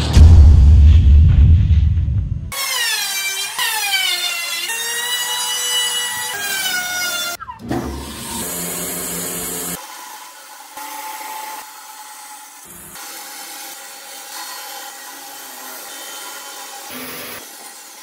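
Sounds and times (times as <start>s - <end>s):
bandsaw cutting wood: 2.5s - 18.0s
electric hand planer shaving wood: 2.6s - 18.0s.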